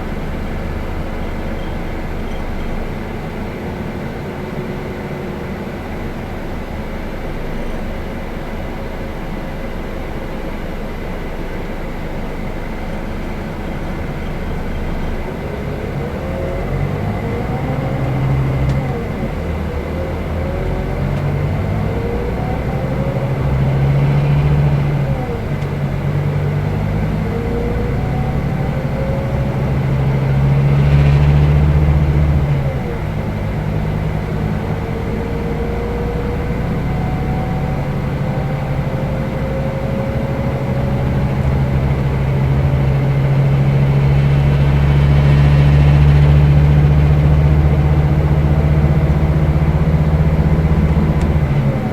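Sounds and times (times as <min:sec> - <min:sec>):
coach diesel engine running: 0:00.0 - 0:51.9.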